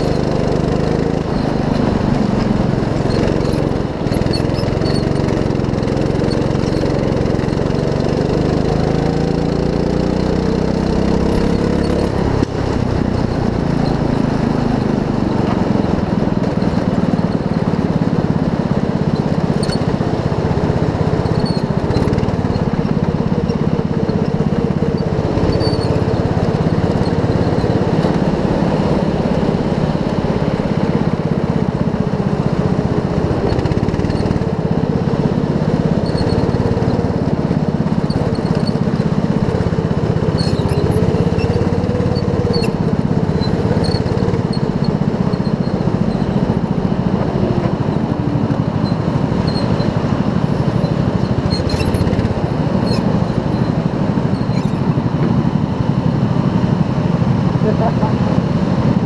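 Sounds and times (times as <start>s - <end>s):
go-kart engine running: 0.0s - 59.0s.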